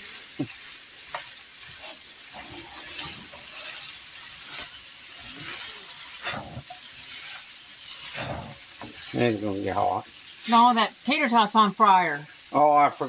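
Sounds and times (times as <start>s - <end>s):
sausage sizzling in a wok: 0.0s - 13.0s.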